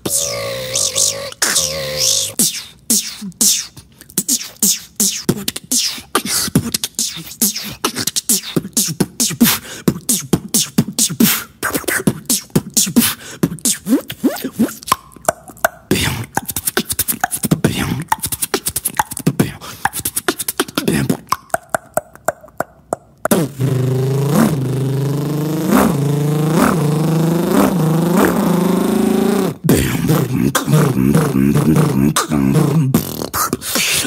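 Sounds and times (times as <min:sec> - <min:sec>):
beatboxing mouth percussion: 0:00.0 - 0:34.0.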